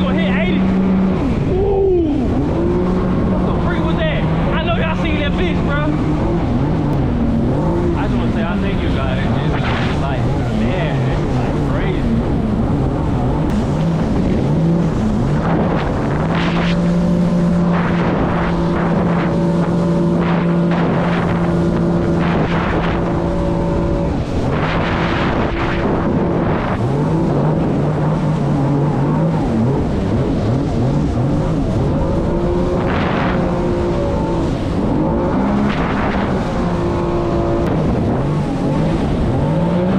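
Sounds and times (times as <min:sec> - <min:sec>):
jet ski engine running: 0:00.0 - 0:39.9
rushing bursts of noise: 0:00.0 - 0:39.9.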